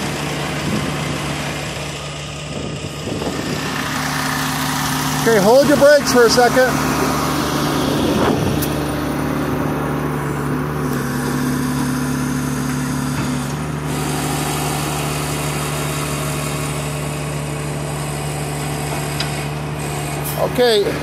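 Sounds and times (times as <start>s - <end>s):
heavy truck engine running: 0.0s - 21.0s.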